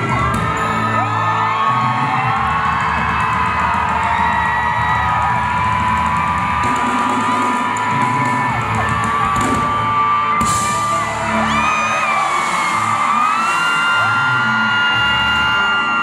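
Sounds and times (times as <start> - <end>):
crowd screaming and cheering: 0.0 - 16.0
pop music over sound system: 0.0 - 16.0.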